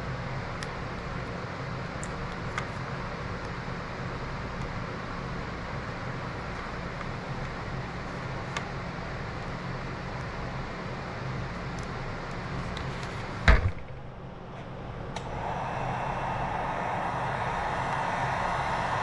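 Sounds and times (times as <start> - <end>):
fan machine hiss and hum: 0.0 - 19.0.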